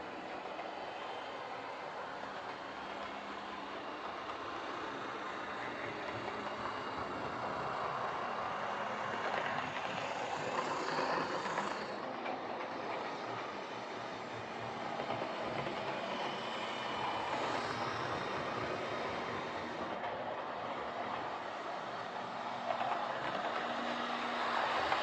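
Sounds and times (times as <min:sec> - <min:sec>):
model train motor whirring: 0:00.0 - 0:25.0.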